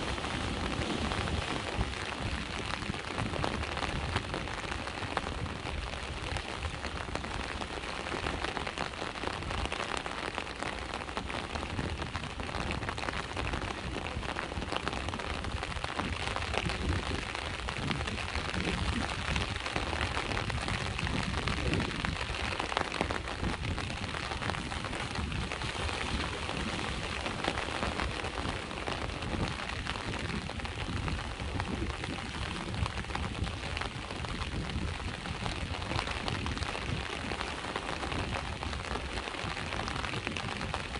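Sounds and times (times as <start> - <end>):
rain pattering: 0.0 - 40.9
sea waves washing on shore: 0.0 - 40.9.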